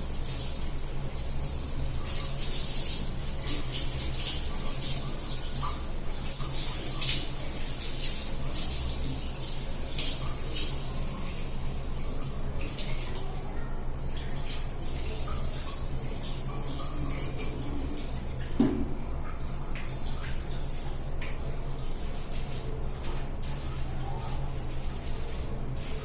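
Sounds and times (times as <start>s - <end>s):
tap water running on hair: 0.0s - 26.0s.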